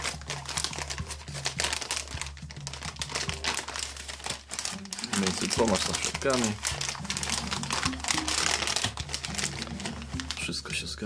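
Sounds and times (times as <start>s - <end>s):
plastic sleeve crinkling: 0.0s - 11.0s.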